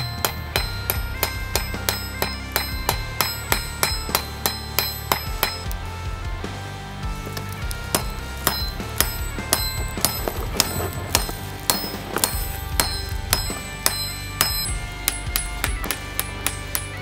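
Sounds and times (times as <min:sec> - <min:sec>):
hammer striking hot metal: 0:00.0 - 0:06.0, 0:07.1 - 0:17.0
background music: 0:00.0 - 0:17.0.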